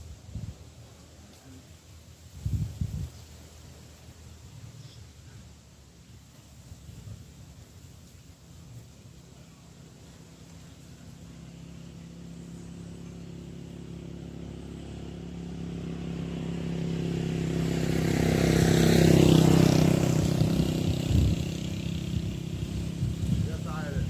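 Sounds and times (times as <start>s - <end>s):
vehicle engine passing: 0.0s - 24.0s.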